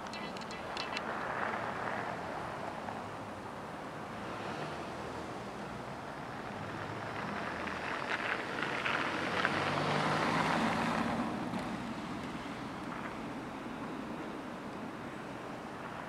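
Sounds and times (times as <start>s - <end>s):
car passing on snowy road: 1.1s - 16.0s.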